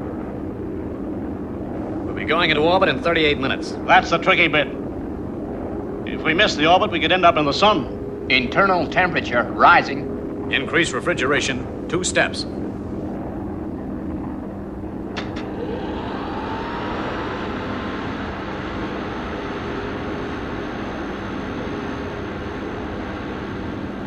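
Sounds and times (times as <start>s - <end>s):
faint rising whine: 0.0s - 24.0s
refrigeration machinery hum: 0.0s - 24.0s.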